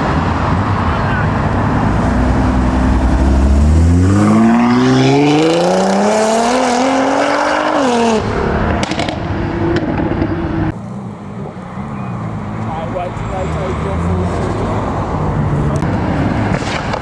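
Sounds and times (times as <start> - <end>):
car engine accelerating hard: 0.3 - 16.2.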